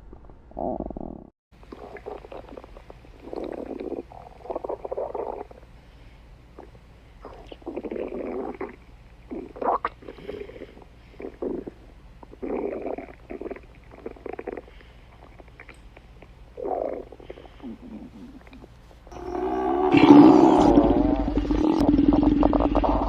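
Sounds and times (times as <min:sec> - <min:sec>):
stomach growling and gurgling: 0:00.0 - 0:05.7, 0:06.6 - 0:23.0.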